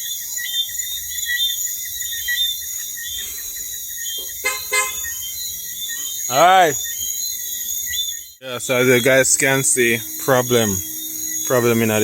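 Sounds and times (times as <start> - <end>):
insects chirping in trills: 0.0 - 12.0.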